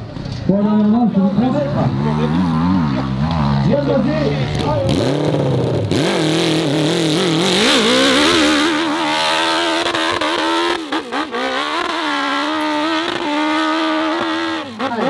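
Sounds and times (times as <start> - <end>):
motorcycle engine revving hard: 1.4 - 15.0.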